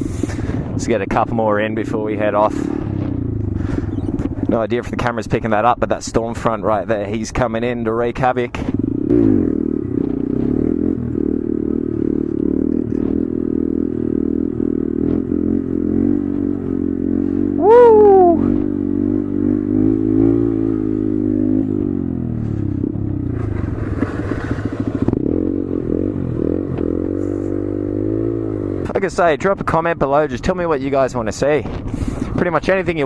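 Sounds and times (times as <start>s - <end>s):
motorcycle engine revving: 0.0s - 5.8s, 8.2s - 30.6s.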